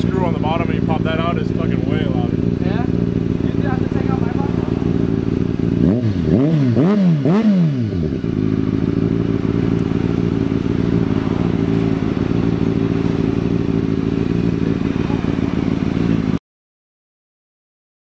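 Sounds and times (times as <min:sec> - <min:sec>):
motorcycle engine idling: 0:00.0 - 0:16.4
motorcycle engine revving: 0:00.0 - 0:16.4.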